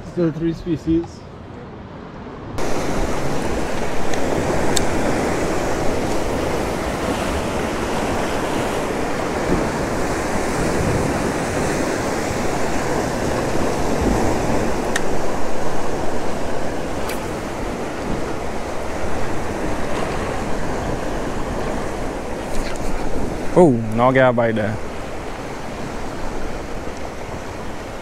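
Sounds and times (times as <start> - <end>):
wind buffeting microphone: 2.4 - 28.0
sea water washing: 2.6 - 28.0.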